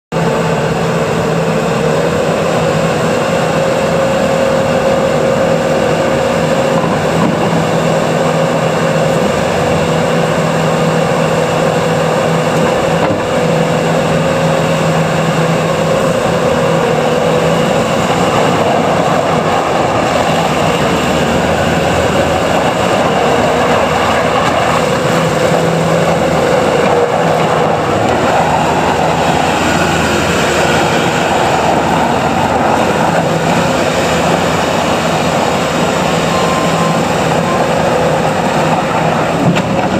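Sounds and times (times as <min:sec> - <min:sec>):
diesel engine running: 0:00.1 - 0:39.9
steady whine: 0:00.1 - 0:39.9.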